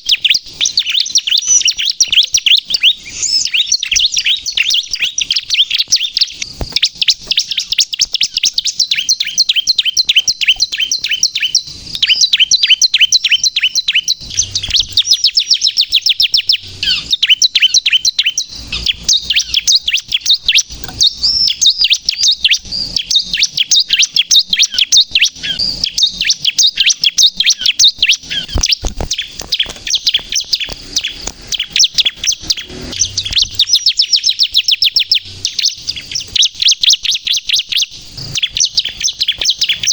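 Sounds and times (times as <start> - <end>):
bird singing rapid sharp chirps: 0.0 - 39.9.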